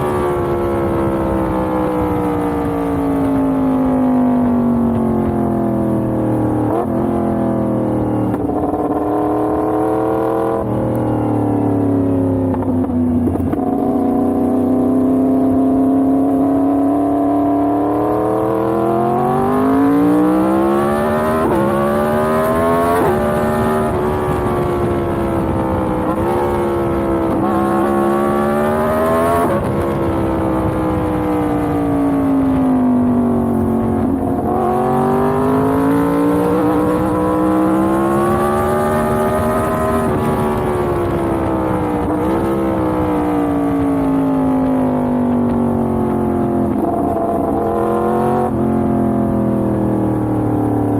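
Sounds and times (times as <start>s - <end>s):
motorcycle engine shifting gears: 0.0s - 50.9s.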